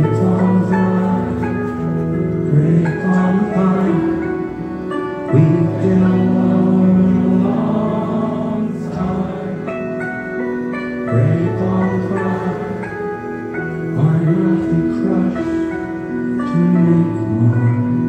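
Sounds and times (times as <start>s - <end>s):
man singing slow song: 0.0s - 10.0s, 11.0s - 18.0s.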